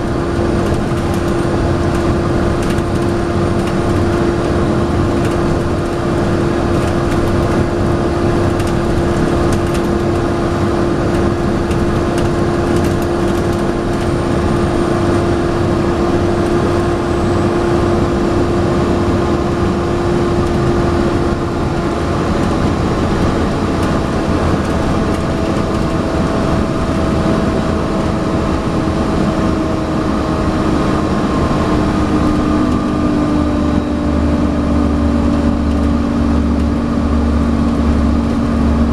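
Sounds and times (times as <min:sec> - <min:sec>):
bus engine running: 0:00.0 - 0:38.9
cooling fan whining hum: 0:00.0 - 0:38.9.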